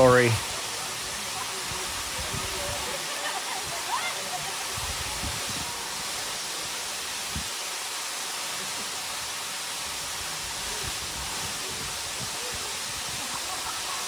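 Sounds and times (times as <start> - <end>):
waterfall rushing into pool: 0.0 - 14.0.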